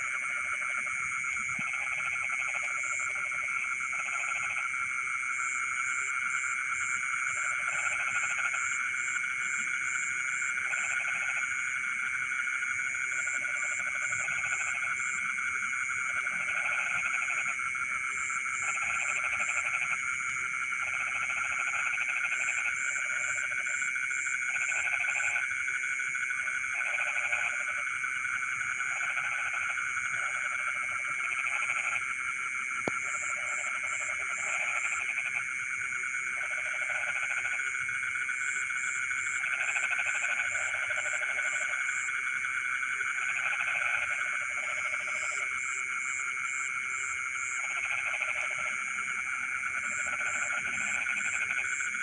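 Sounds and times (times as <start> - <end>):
frog chorus calling: 0.0 - 52.0
low frog croaking: 0.0 - 52.0.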